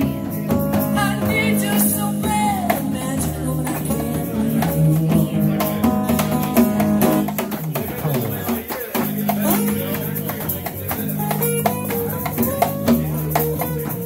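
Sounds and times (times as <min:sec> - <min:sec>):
acoustic guitar: 0:00.0 - 0:14.0
electric guitar: 0:00.0 - 0:14.0
hand-played cajon beat: 0:00.0 - 0:14.0.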